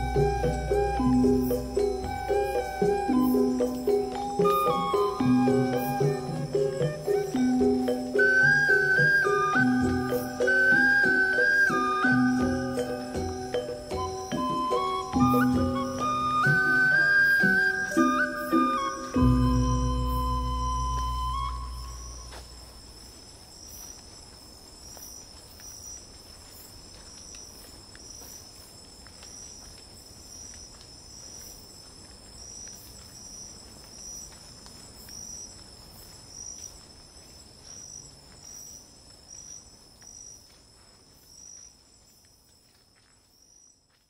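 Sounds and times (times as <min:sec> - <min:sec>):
pulsed insect call: 0:00.0 - 0:43.9
insects trilling: 0:00.0 - 0:44.0.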